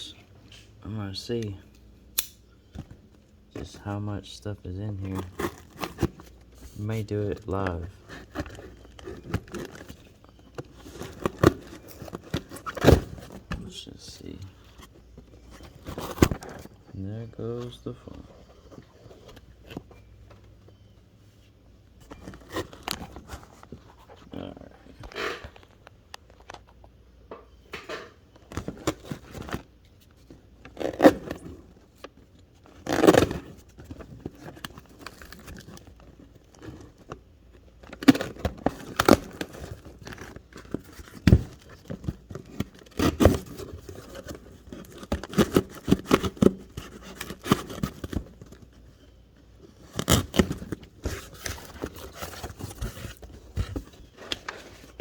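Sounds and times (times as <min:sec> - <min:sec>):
cardboard rustling and scraping: 0:02.7 - 0:26.9, 0:27.9 - 0:55.0.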